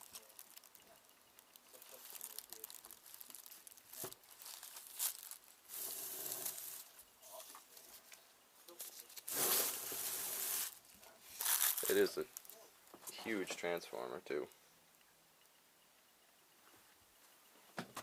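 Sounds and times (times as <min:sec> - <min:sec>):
rustling crinkling handling noise: 0:00.0 - 0:14.5.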